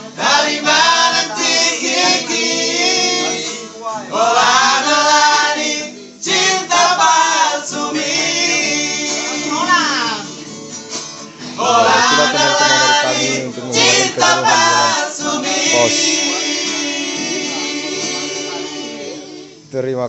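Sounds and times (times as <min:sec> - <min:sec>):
men singing together: 0:00.0 - 0:10.1, 0:11.5 - 0:19.5
acoustic guitar: 0:00.0 - 0:20.0.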